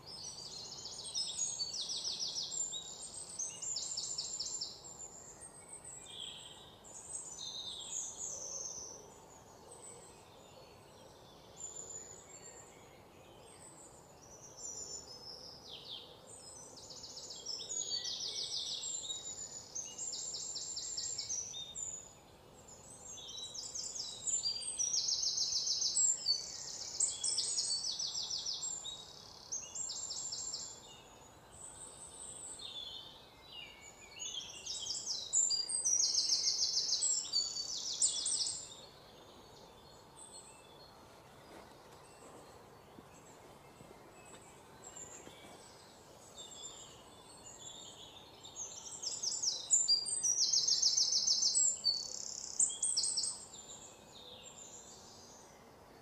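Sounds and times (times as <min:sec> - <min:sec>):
faint background noise: 0:00.0 - 0:56.0.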